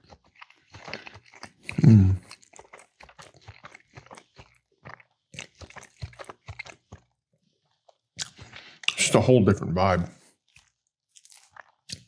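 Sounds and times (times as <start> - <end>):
wet chewing: 0.0 - 9.2, 10.5 - 12.0.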